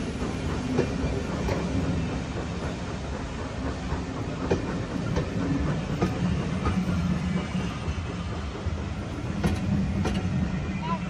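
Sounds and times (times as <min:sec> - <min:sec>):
wheels clicking over rail joints: 0:00.0 - 0:10.5
low rumble of train wheels on rail: 0:00.0 - 0:11.0.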